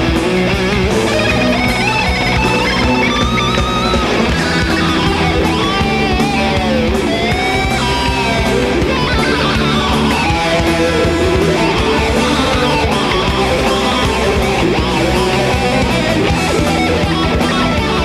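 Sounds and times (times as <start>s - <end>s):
electric guitar: 0.0s - 18.0s
heavy metal band playing live: 0.0s - 18.0s.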